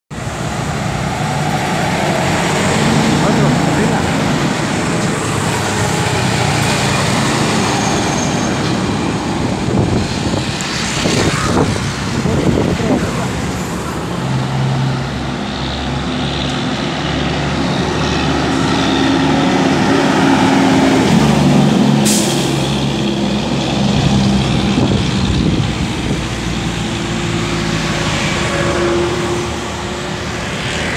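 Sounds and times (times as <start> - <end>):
truck diesel engines passing: 0.1 - 30.9.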